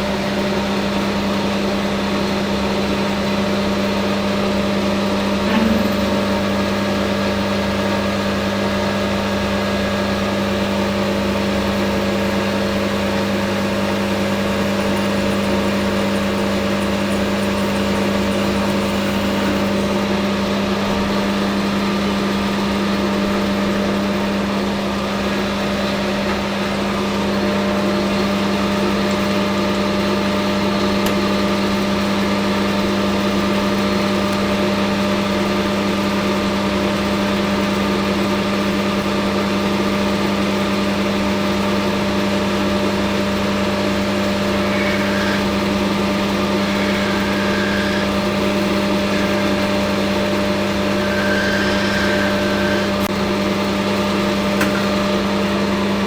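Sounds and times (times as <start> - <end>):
metal lathe running: 1.4 - 56.0.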